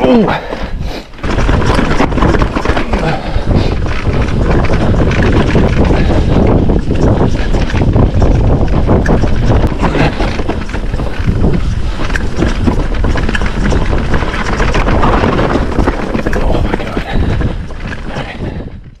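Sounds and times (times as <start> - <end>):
bike rattling clicks and knocks: 0.0 - 19.0
bike tyre rumble: 0.0 - 19.0
wind buffeting microphone: 0.0 - 19.0.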